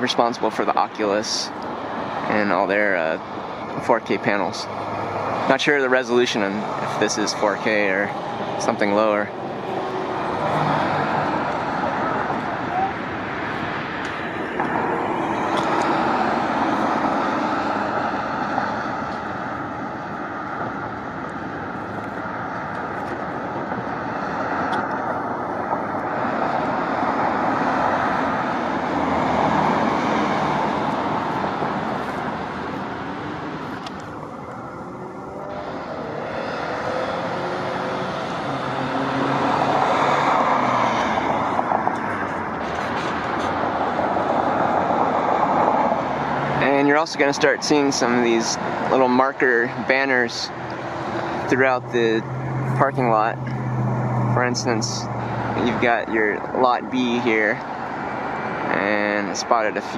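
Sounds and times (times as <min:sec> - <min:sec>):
cars passing on busy street: 0:00.0 - 0:59.9.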